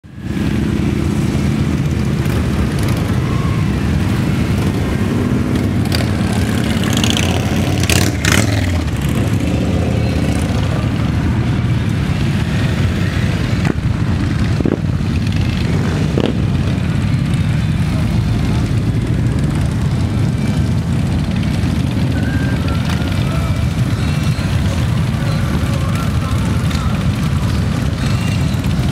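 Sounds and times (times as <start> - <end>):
motorcycles riding past: 0.1 - 28.9.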